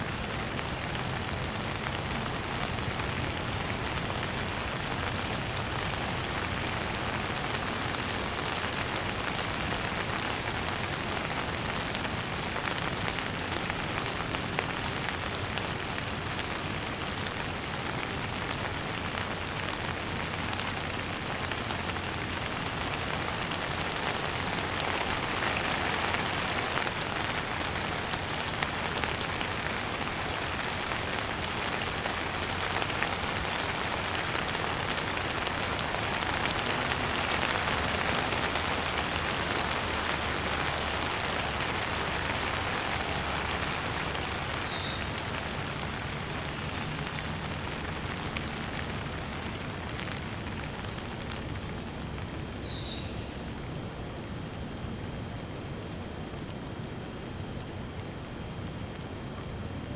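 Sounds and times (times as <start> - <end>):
rain hissing: 0.0 - 54.4
individual raindrops: 0.0 - 59.9.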